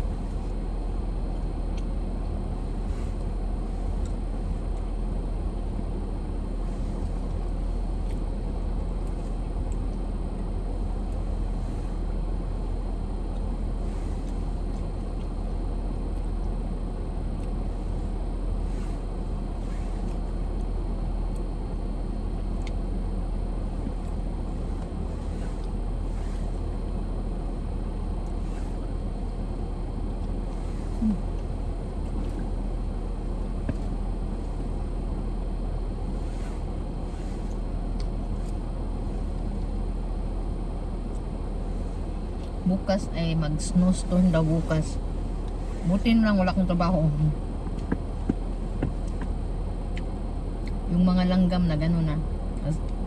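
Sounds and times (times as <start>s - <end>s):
car engine rumbling: 0.0s - 53.0s.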